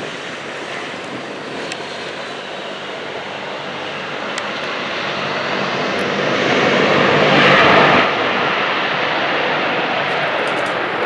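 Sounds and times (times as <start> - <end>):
airplane engine passing by: 0.0 - 11.0.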